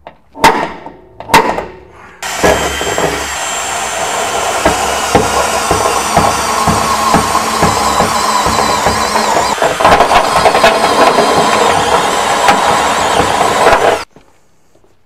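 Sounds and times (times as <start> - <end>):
sharp knocks: 0.5 - 14.1.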